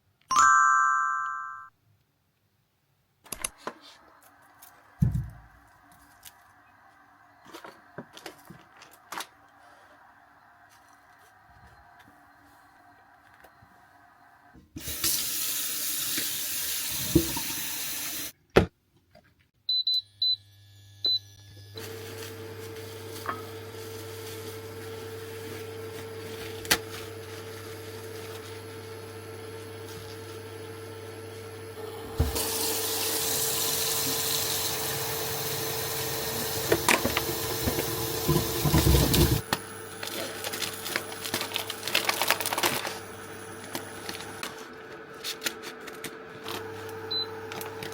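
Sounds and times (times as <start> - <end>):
appliance hum: 3.3 - 18.3, 20.0 - 47.9.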